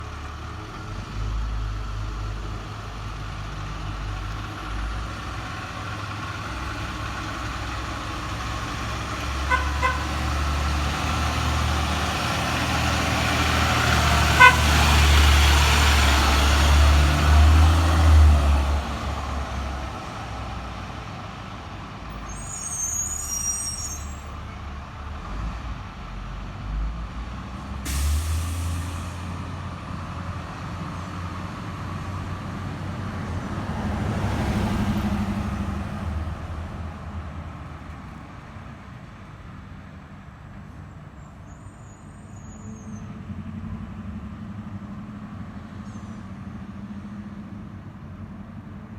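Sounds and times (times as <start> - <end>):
bus diesel engine rumbling: 0.0 - 48.9.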